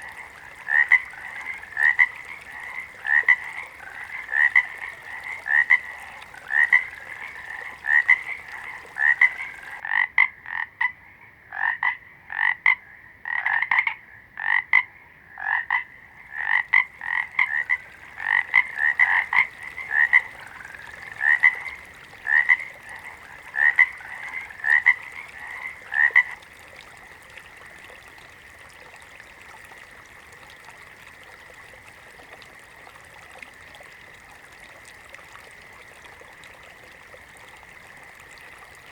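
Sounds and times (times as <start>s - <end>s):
frogs croaking: 0.0s - 38.9s.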